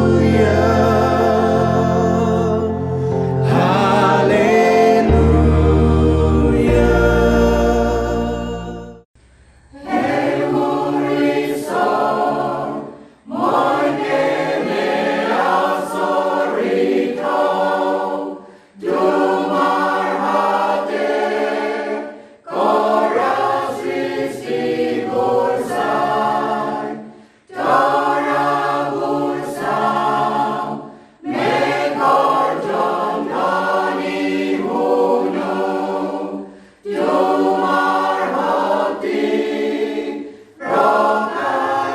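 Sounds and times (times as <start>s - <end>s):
choir singing unaccompanied: 0.0s - 9.1s, 9.7s - 41.9s.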